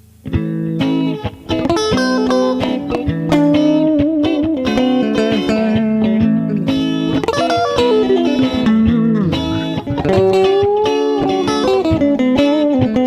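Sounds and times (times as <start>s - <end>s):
clean electric guitar melody: 0.0s - 13.0s.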